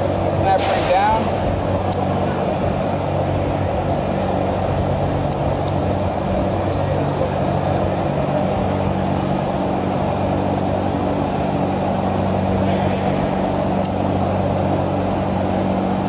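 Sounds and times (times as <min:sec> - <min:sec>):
shop machinery humming: 0:00.0 - 0:16.0.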